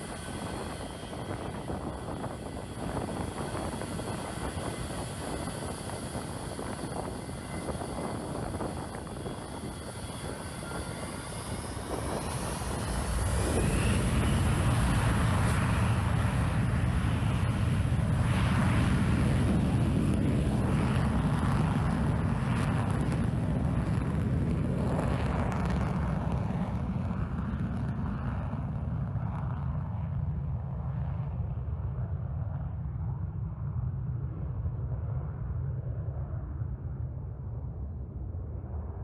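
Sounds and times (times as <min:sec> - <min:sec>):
jet engine noise: 0:00.0 - 0:39.0.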